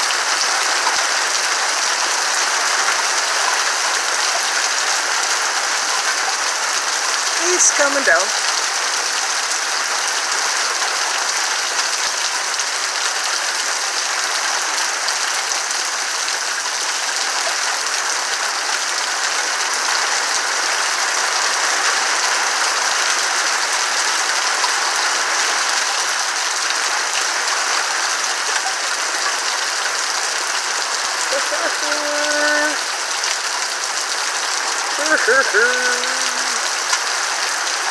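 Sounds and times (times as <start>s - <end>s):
rain on tree leaves: 0.0s - 37.9s.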